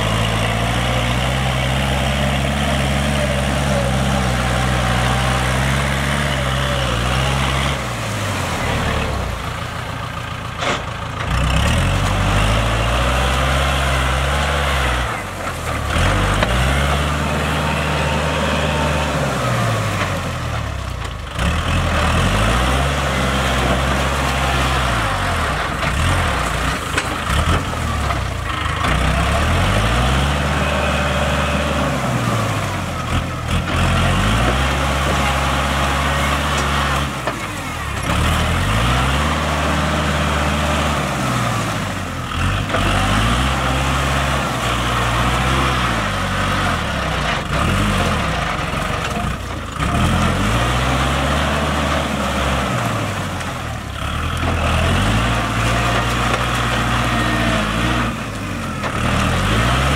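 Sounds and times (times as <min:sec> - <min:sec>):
rotary tiller churning mud and water: 0:00.0 - 0:59.9
tractor diesel engine under load: 0:00.0 - 0:59.9.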